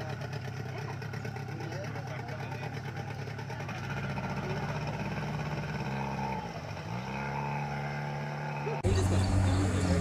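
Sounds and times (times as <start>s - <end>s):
outboard motor running: 0.0s - 7.1s, 8.6s - 10.0s.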